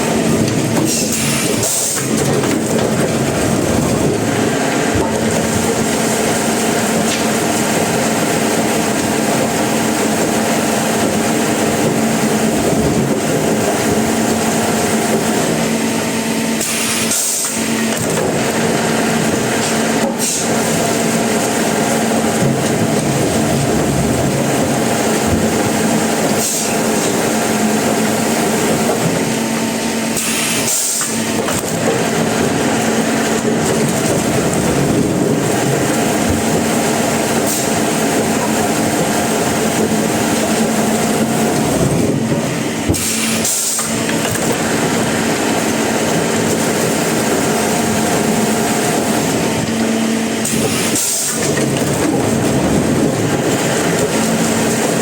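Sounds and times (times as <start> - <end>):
sawmill machinery droning: 0.0 - 55.0.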